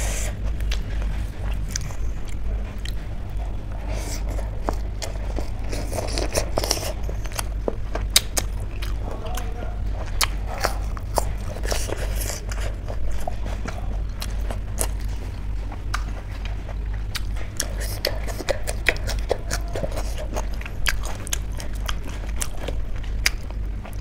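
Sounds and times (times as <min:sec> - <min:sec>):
crunchy food chewing: 0:00.0 - 0:24.0
steady low hum: 0:00.0 - 0:24.0.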